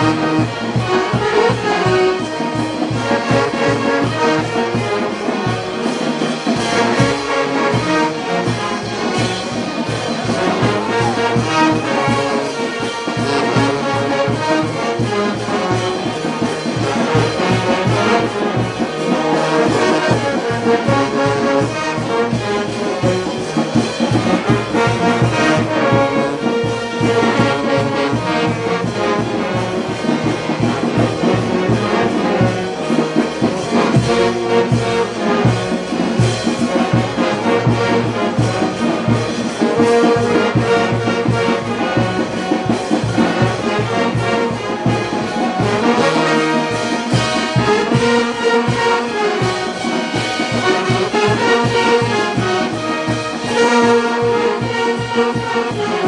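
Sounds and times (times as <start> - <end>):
brass band playing: 0.0 - 56.0.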